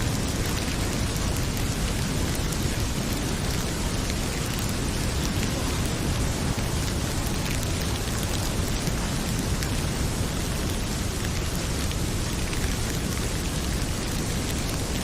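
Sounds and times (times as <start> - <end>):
heavy rain pouring: 0.0 - 15.0
wood fire crackling: 0.0 - 15.0.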